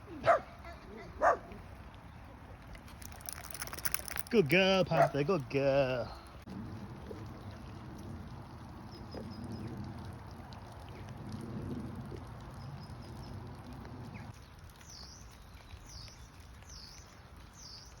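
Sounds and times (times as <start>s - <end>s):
low rumbling background noise: 0.0s - 14.6s.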